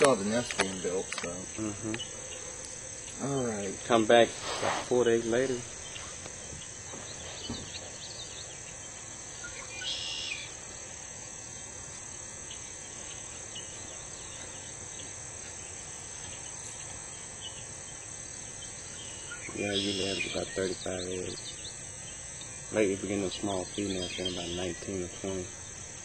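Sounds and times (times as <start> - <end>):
crickets chirping chorus: 0.0 - 26.0.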